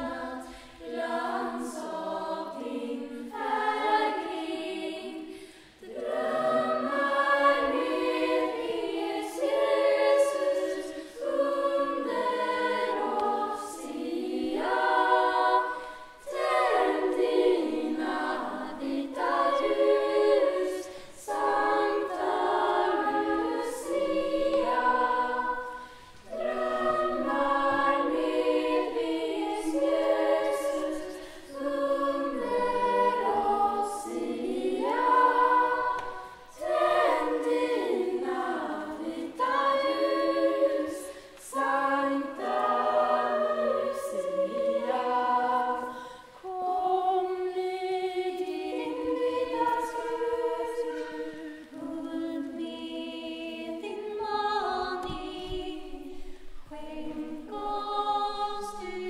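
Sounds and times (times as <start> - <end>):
young choir singing: 0.0 - 59.0.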